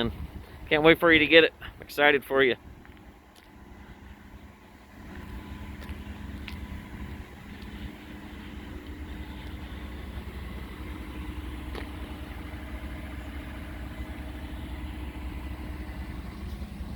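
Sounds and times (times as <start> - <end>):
vehicle engine idling: 0.0 - 16.9.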